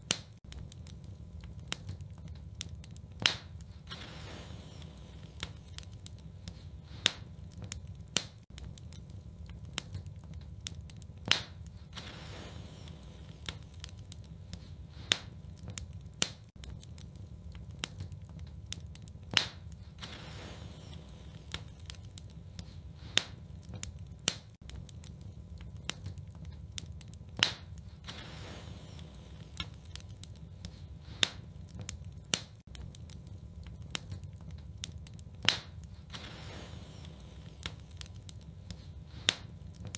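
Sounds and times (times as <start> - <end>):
fire crackling and popping: 0.0 - 39.9
fireplace fire burning: 0.0 - 39.9.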